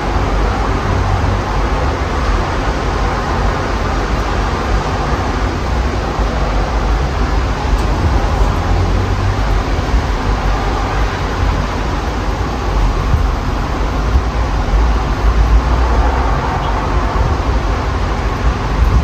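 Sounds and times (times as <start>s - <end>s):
highway traffic: 0.0s - 19.0s
strong wind buffeting microphone: 0.0s - 19.0s.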